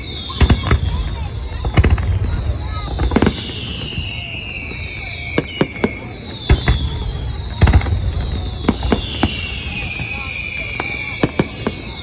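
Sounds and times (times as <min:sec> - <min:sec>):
fireworks bursting bangs: 0:00.0 - 0:12.0
fireworks whistling: 0:00.0 - 0:12.0.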